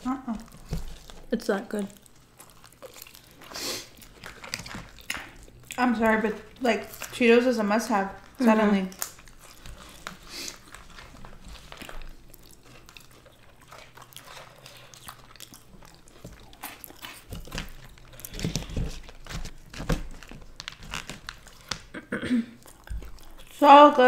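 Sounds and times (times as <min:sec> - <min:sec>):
crunchy chewing: 0:00.0 - 0:22.0, 0:22.6 - 0:24.0.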